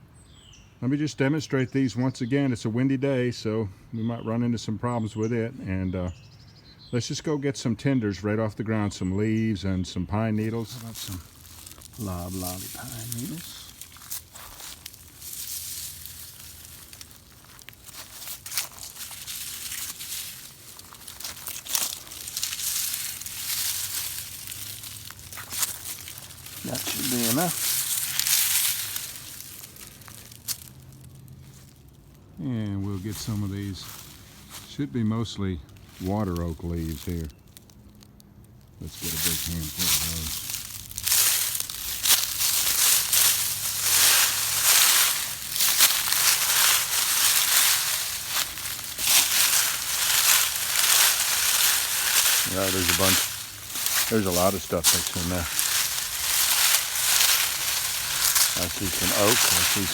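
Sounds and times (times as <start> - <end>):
pine needles and leaves rustling: 10.2 - 59.9.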